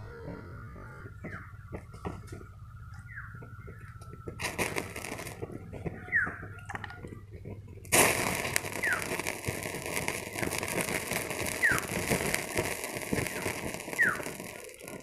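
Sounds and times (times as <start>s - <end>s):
wax and water sizzling: 0.2s - 15.0s.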